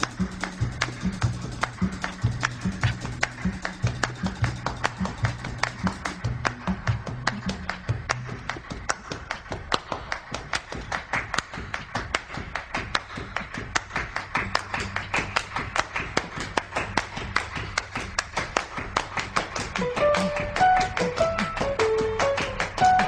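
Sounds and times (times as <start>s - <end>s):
rhythmic hand-clapping: 0.0s - 23.0s.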